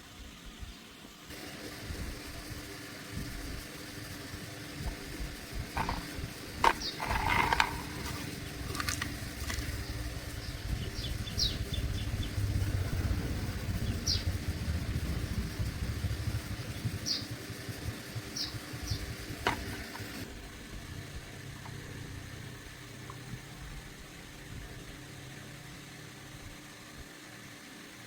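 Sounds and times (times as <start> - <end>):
low uneven rumble: 1.9 - 27.1.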